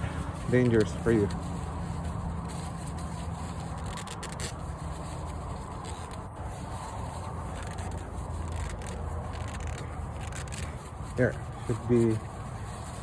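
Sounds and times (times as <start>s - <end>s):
hands rubbing oil filter: 0.0s - 13.0s.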